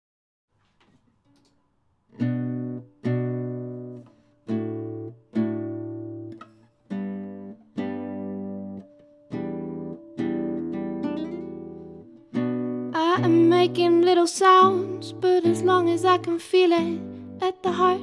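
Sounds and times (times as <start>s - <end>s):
acoustic guitar strumming chords: 2.2s - 18.0s.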